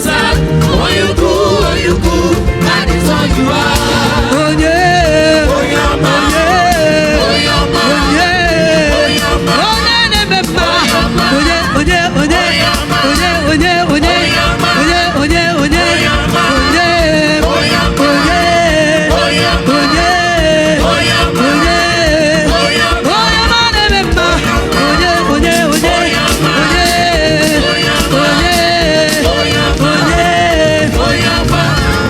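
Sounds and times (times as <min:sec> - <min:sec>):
gospel praise band music: 0:00.0 - 0:32.0
steady drum beat: 0:00.0 - 0:32.0.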